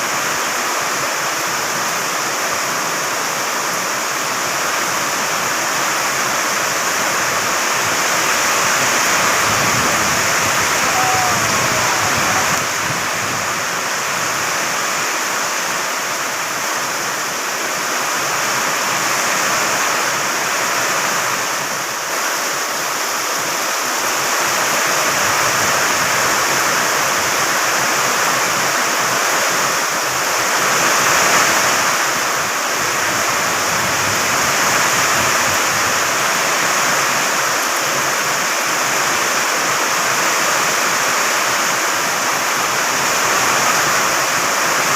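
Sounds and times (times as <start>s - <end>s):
heavy rain in strong wind: 0.0s - 44.9s.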